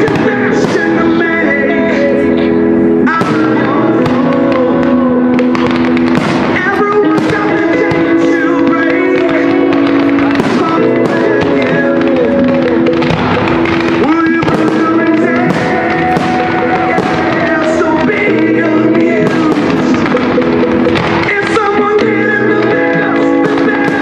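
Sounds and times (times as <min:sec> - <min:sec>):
fireworks bursting and crackling: 0:00.0 - 0:24.0
loud music: 0:00.0 - 0:24.0.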